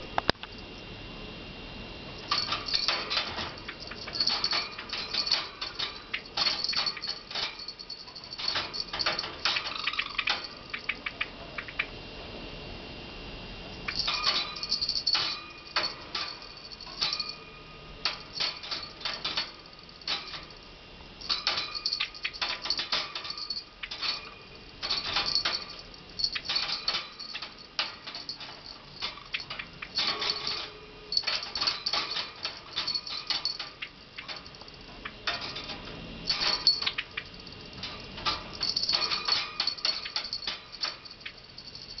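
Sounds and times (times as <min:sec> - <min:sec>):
small bell jingling: 0:02.2 - 0:11.0, 0:13.8 - 0:17.5, 0:18.1 - 0:20.6, 0:21.2 - 0:42.0.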